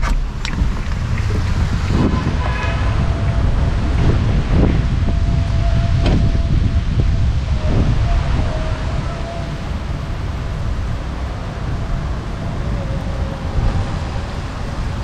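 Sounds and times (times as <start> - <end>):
rain hissing on wet road: 0.0 - 13.0
wind buffeting microphone: 0.0 - 15.0.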